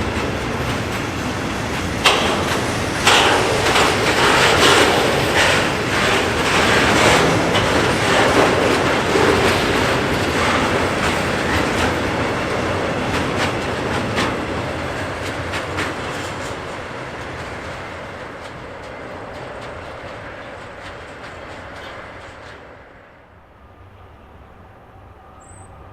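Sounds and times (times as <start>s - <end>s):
train wheels clacking: 0.0s - 23.0s.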